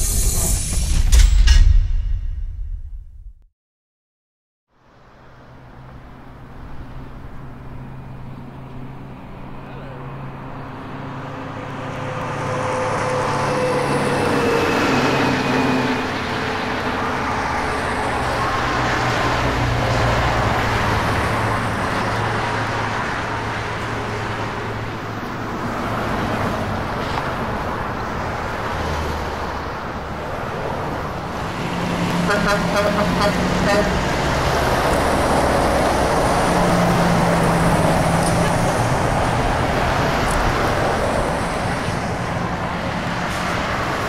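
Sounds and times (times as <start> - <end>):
highway traffic passing: 4.7 - 44.0
heavy truck approaching: 4.8 - 44.0.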